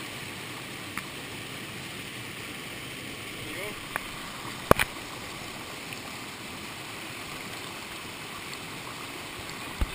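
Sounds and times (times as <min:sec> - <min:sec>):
stream rushing over rocks: 0:00.0 - 0:09.9.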